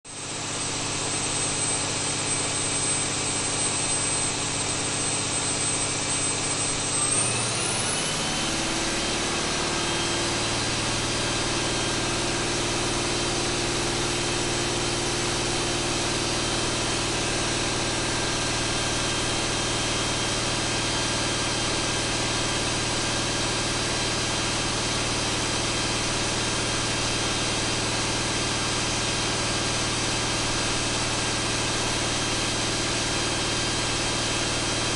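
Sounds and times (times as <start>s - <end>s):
high whine: 6.5s - 34.6s
diesel engine running under load: 6.8s - 34.9s.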